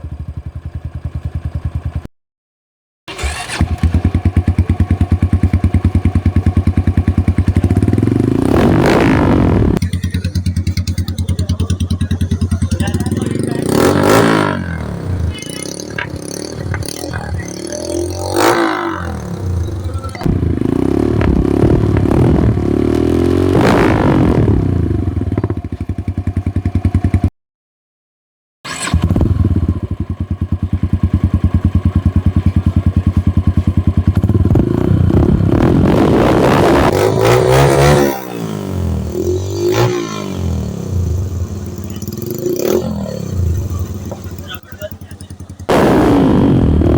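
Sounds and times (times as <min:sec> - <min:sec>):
motorcycle engine revving: 0:00.0 - 0:02.1, 0:03.1 - 0:27.3, 0:28.7 - 0:46.9.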